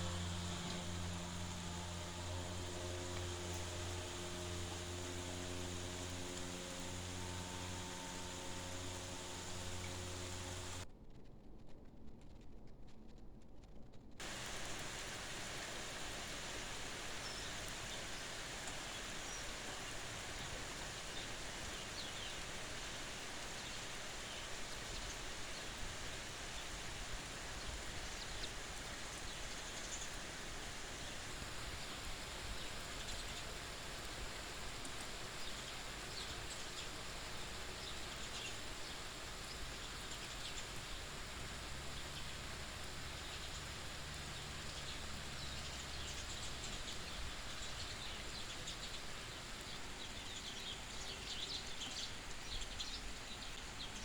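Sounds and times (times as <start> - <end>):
steady rain falling: 0.0 - 10.9, 14.2 - 54.0.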